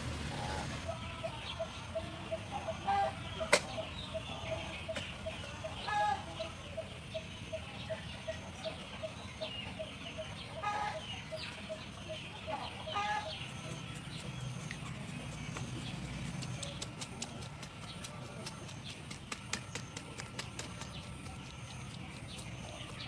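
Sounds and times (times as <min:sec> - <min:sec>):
chickens clucking: 0:00.2 - 0:23.0.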